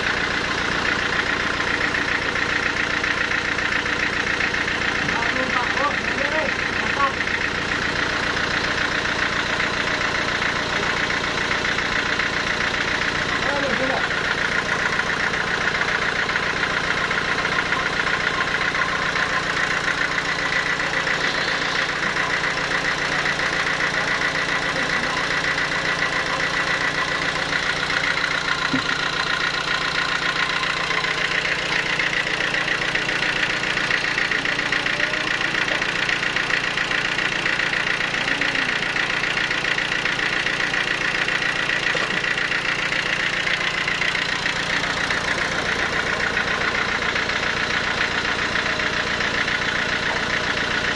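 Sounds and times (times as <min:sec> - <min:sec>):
sawmill machinery running: 0:00.0 - 0:50.9.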